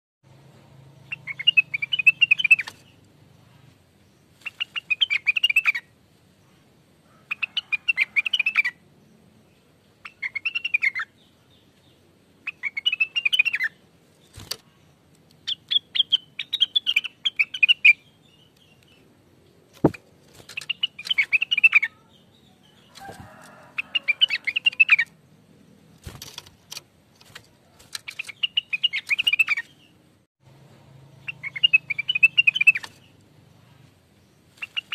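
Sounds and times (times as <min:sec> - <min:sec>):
bird chattering song: 0:01.0 - 0:03.5, 0:04.1 - 0:05.9, 0:07.1 - 0:25.9, 0:27.4 - 0:30.0, 0:31.2 - 0:34.9.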